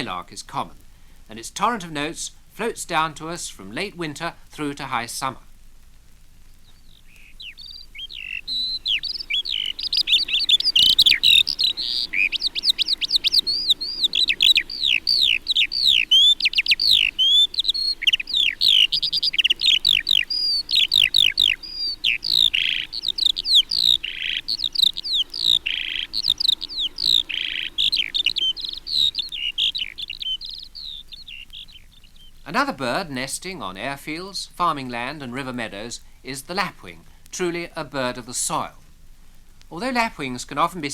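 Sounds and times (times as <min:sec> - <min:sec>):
skylark singing: 0:00.0 - 0:05.6, 0:06.4 - 0:38.8, 0:39.7 - 0:40.9.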